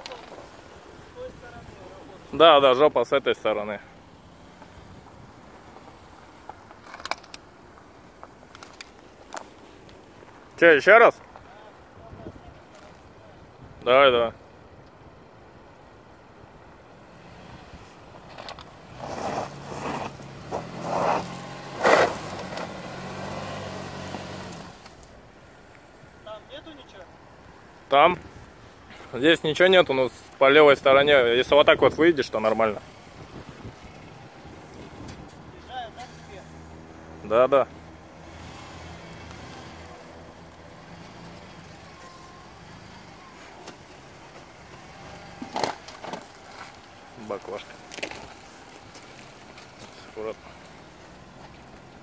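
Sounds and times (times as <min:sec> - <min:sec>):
car engine under load: 0:00.0 - 0:10.6, 0:15.6 - 0:26.2, 0:29.9 - 0:52.0.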